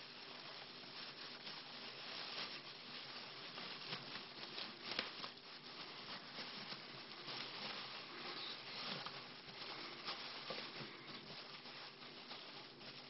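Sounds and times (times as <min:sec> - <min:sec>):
small animals pattering and scratching: 0:00.0 - 0:13.0.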